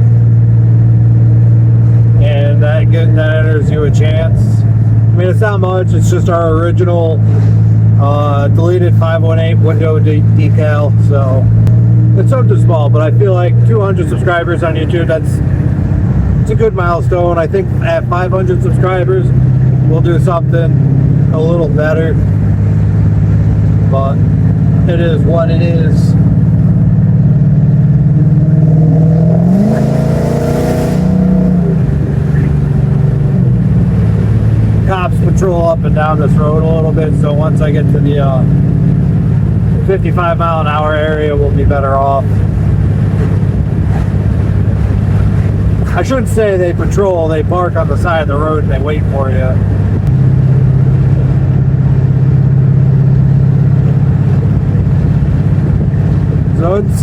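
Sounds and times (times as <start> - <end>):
car engine running while driving: 0.0 - 57.0
low exhaust drone: 0.0 - 57.0
road noise: 0.0 - 57.0.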